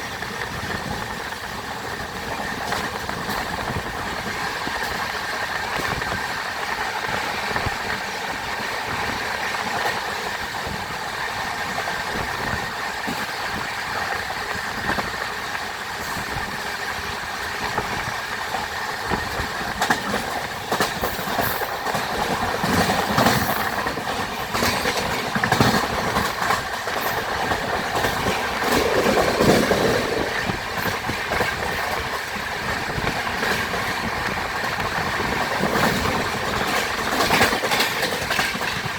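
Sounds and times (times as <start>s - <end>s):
passenger train hum: 0.0s - 38.9s
train wheels clattering over joints: 0.0s - 38.9s.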